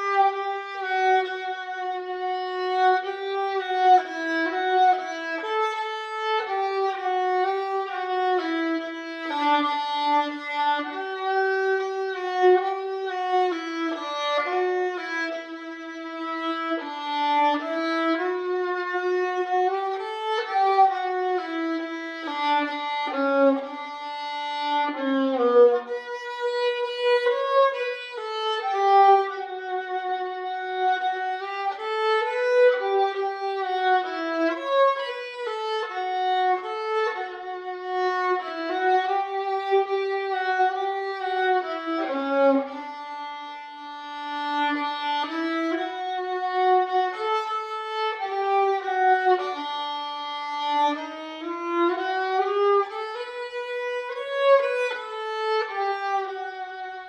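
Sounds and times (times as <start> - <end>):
solo violin slow melody: 0.0 - 57.0.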